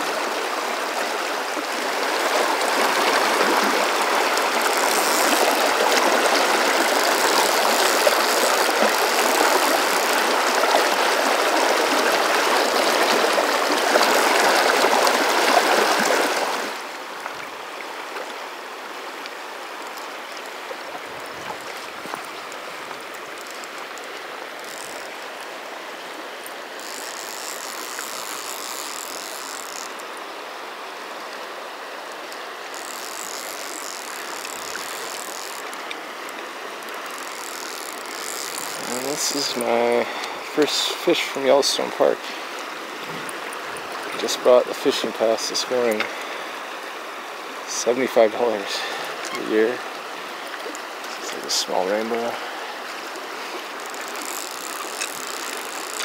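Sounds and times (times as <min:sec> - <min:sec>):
river rushing over riffle: 0:00.0 - 0:56.0.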